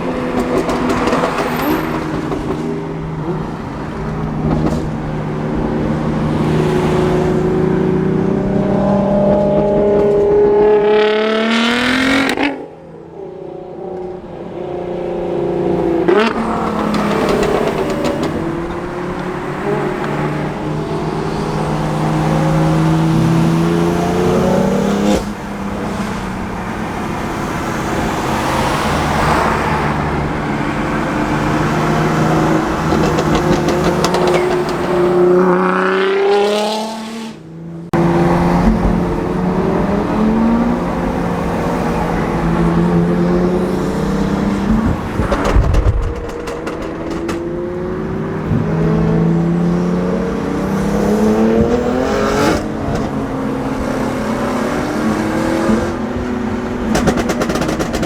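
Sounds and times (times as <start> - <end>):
cars accelerating past: 0.0 - 58.0
sports car engines revving: 0.0 - 58.0.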